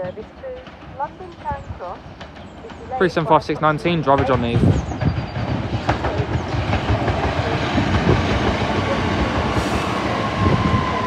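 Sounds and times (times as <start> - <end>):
train wheel-on-rail rumble: 0.0 - 11.0.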